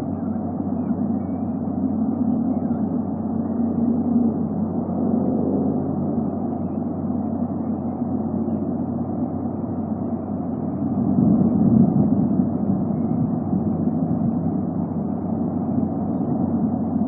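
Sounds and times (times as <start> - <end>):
faint hum: 0.0 - 17.0
steady low rumble: 0.0 - 17.0.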